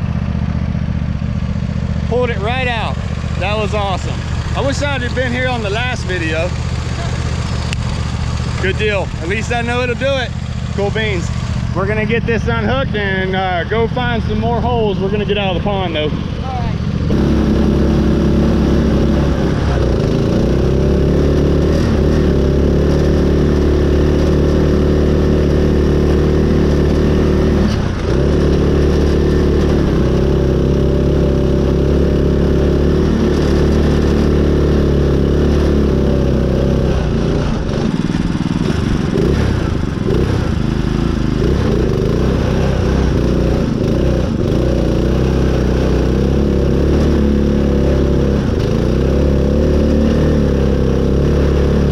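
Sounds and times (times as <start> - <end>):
riding mower engine running: 0.0 - 51.9.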